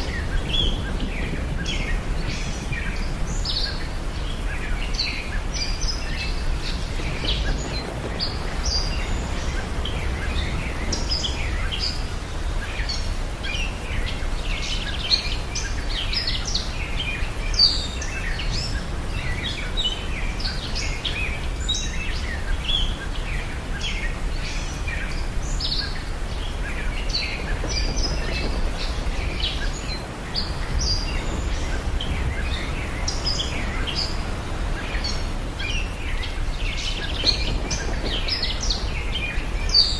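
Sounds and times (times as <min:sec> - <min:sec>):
low outdoor background noise: 0:00.0 - 0:39.9
small birds chirping: 0:00.0 - 0:39.9.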